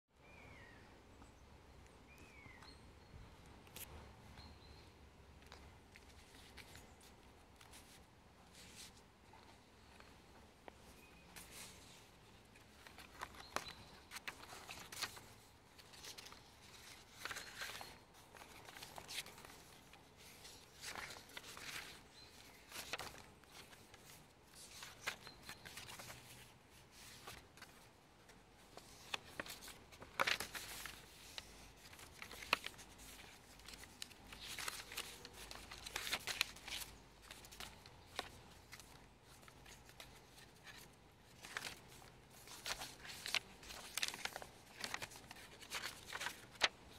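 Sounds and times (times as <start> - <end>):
paper pages rustling: 5.4 - 46.9.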